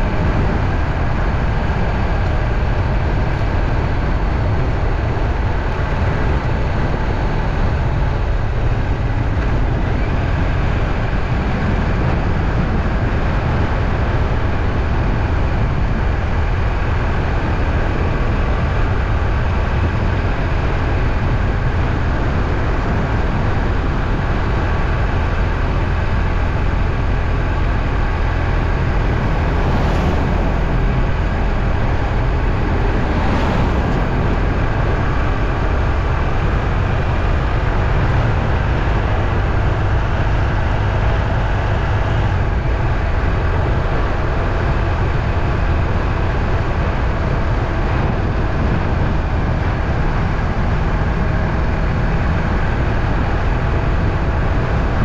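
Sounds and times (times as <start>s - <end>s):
vehicle rumbling: 0.0s - 55.0s.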